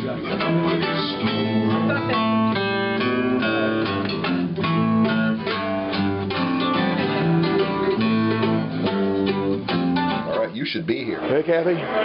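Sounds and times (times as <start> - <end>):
instrumental acoustic guitar music: 0.0 - 12.0.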